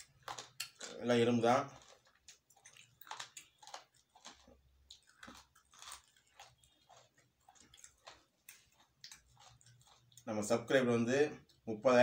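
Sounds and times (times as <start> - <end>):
man chewing with wet smacks: 0.0 - 10.7, 11.3 - 11.8.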